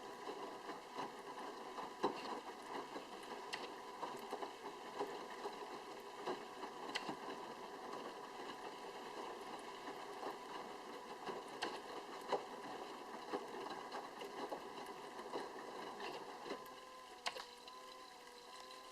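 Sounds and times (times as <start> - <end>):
washing machine motor hum: 0.0 - 18.9.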